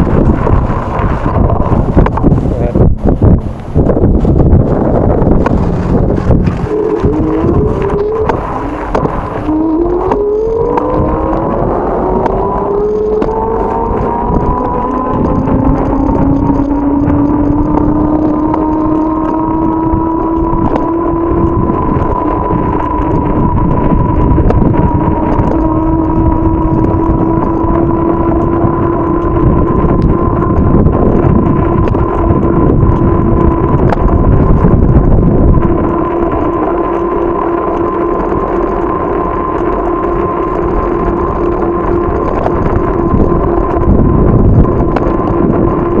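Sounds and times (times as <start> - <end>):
bicycle whine: 0.0 - 46.0
wind buffeting microphone: 0.0 - 46.0.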